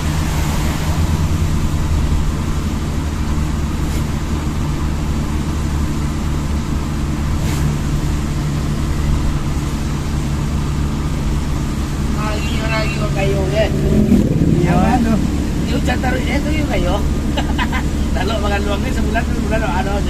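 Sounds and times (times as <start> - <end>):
road and rain hiss: 0.0 - 20.0
vehicle engine running: 0.0 - 20.0.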